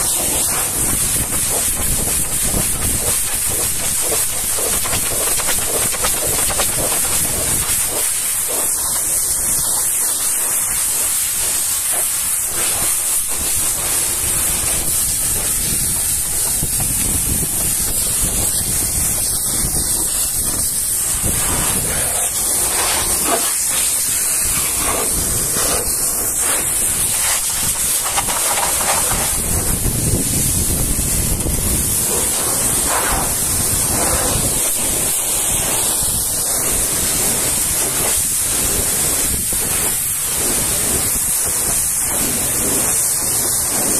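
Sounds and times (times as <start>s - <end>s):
pressure washer jet hissing: 0.0s - 43.9s.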